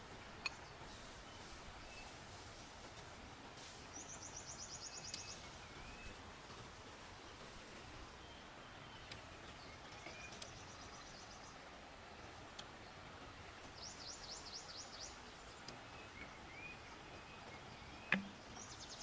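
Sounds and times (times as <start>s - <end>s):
forest stream rushing: 0.0s - 19.0s
songbirds calling: 0.0s - 19.0s.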